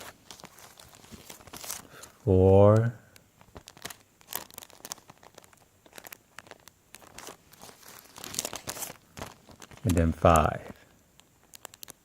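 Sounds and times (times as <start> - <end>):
sticker sheets crinkling: 0.0 - 12.0.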